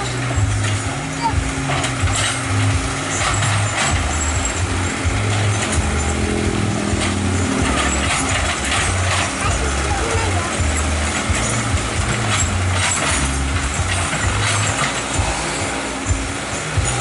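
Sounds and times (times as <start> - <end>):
clanks and knocks: 0.0 - 17.0
diesel engine droning: 0.0 - 17.0.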